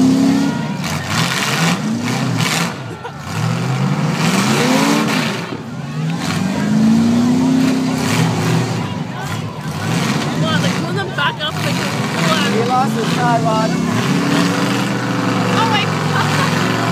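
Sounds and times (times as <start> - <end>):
car engines revving hard: 0.0 - 16.9.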